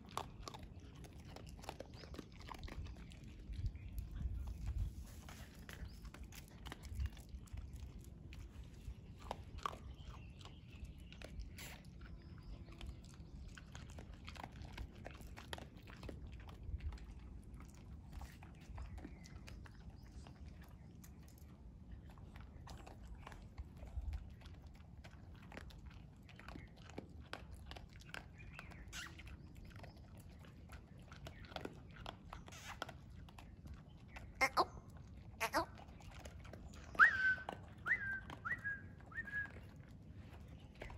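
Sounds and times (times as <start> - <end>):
dogs crunching kibble: 0.0 - 40.9.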